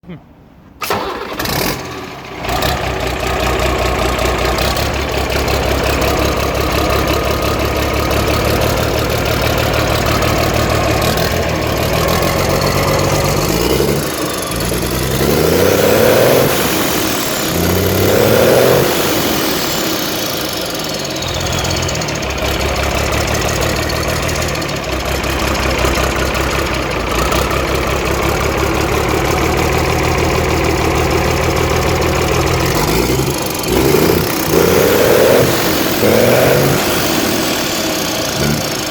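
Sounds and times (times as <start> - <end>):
diesel engine idling: 0.8 - 38.9
engine revving: 0.8 - 38.9.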